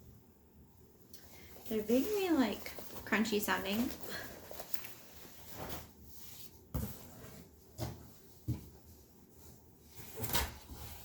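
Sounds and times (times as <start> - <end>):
fabric rustling: 1.3 - 11.0.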